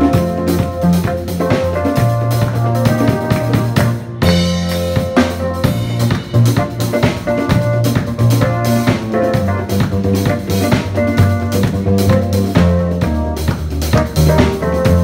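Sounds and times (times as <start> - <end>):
drums keeping steady beat: 0.0 - 15.0
sustained bass line: 0.0 - 15.0.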